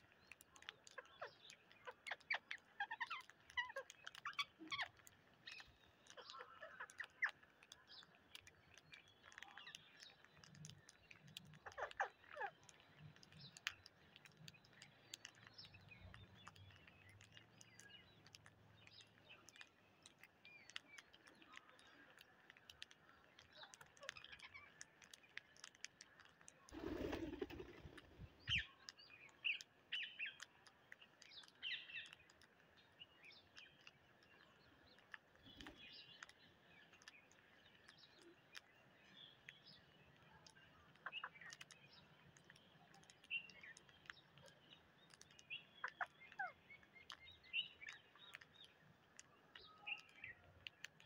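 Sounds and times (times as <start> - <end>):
beaks pecking grain on concrete: 0.0 - 51.0.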